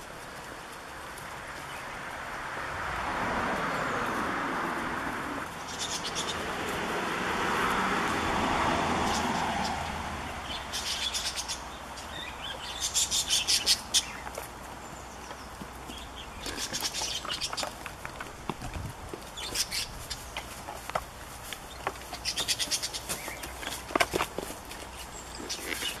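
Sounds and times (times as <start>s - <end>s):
small birds chirping: 3.6s - 7.8s, 8.7s - 26.0s.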